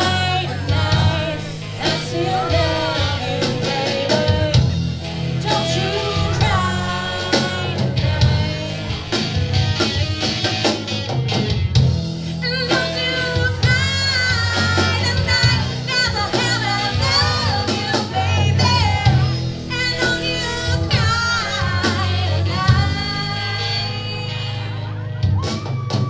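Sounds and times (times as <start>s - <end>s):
woman singing lead: 0.0s - 10.0s, 12.3s - 25.7s
drum kit: 0.0s - 26.0s
electric guitars: 0.0s - 26.0s.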